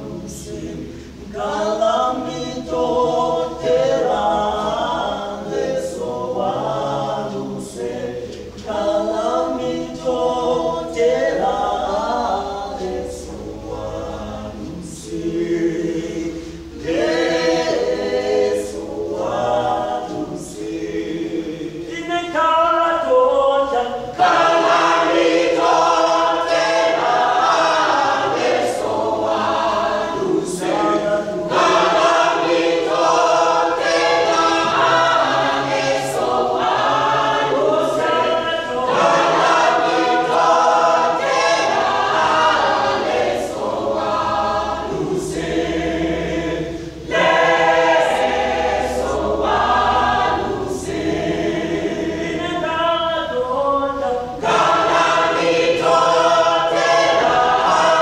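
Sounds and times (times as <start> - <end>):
choir singing in harmony: 0.0 - 58.0.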